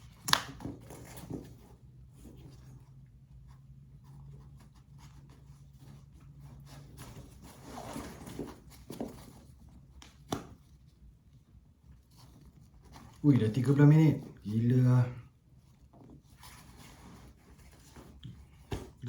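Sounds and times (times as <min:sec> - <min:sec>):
fabric straps rustling and scraping: 0:00.0 - 0:19.0.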